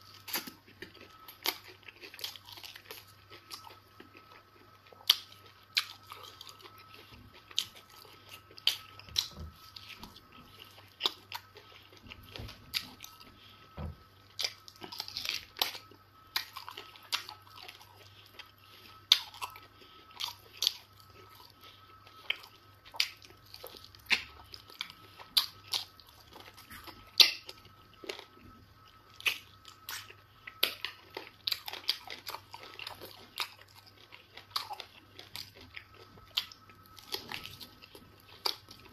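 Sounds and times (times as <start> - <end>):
wet chewing and lip-smacking: 0.0 - 13.7, 14.3 - 38.9
faint steady hum: 0.0 - 38.9.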